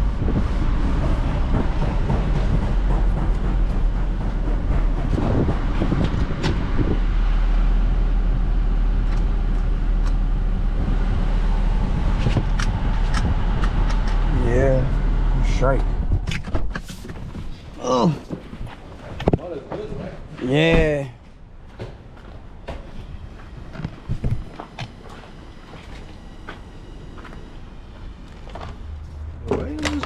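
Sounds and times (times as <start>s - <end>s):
car cabin road and engine rumble: 0.0s - 19.3s, 22.0s - 30.0s.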